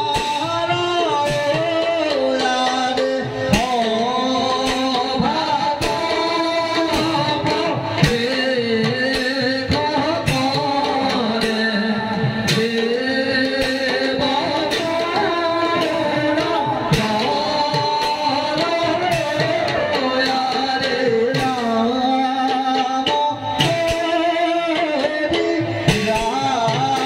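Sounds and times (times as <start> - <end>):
hand-drum strokes: 0.0 - 27.0.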